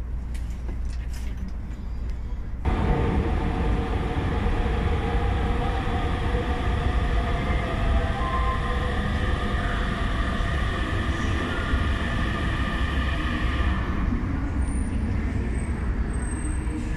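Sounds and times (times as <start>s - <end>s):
train carriage rumble: 0.0s - 16.9s
electric train whine: 2.6s - 16.9s.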